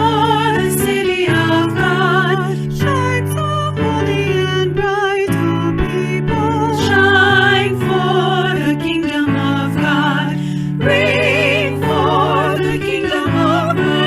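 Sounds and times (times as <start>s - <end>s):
person singing with strong vibrato: 0.0s - 14.0s.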